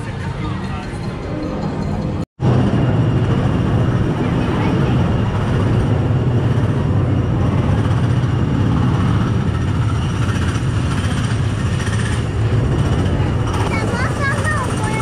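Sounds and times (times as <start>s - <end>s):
go-kart engines droning: 0.0s - 15.0s.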